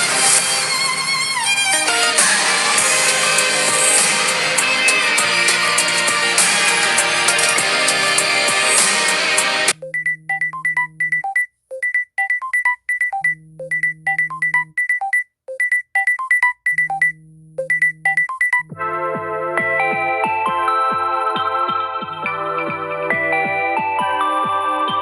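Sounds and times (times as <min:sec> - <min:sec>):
phone ringtone melody: 0:00.0 - 0:25.0.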